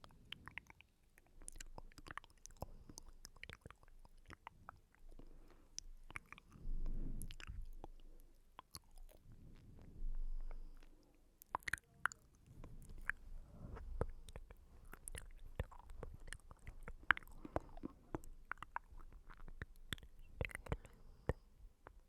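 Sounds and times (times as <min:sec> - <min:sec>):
wet mouth clicks and smacks: 0:00.0 - 0:06.6, 0:07.2 - 0:09.3, 0:10.4 - 0:22.0.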